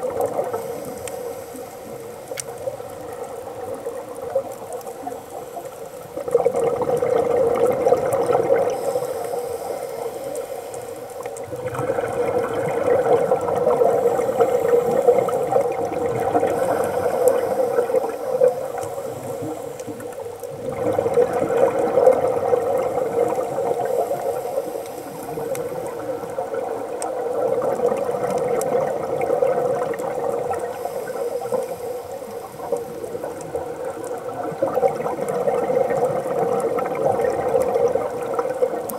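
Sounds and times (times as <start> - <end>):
underwater exhaust bubbles gurgling: 0.0 - 38.9.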